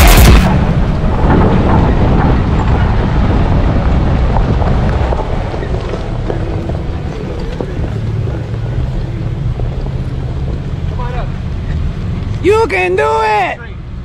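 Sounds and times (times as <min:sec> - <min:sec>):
engine running at low speed: 0:00.0 - 0:12.4
wind buffeting microphone: 0:00.0 - 0:12.4.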